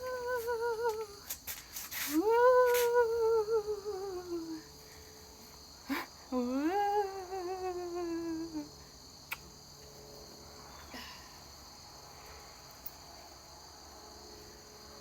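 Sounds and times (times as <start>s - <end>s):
crickets chirring: 0.0s - 15.0s
wavering hum or whine: 0.0s - 15.0s.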